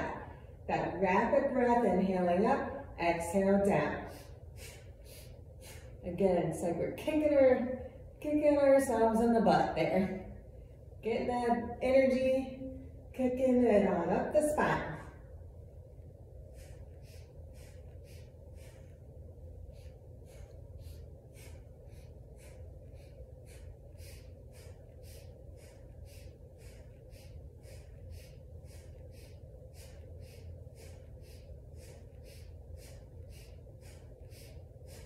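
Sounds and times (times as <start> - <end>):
faint low hum: 0.0 - 35.0
woman breathing rapidly: 0.0 - 35.0.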